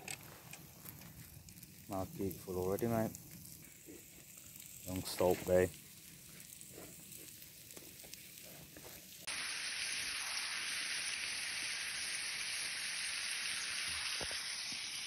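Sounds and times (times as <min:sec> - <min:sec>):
meat sizzling in frying pan: 0:00.0 - 0:15.0.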